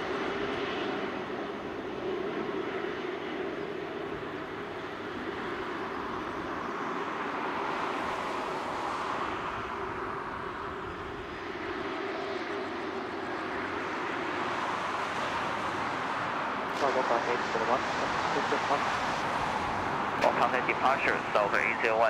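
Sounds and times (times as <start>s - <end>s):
jet engines at high power: 0.0s - 22.0s.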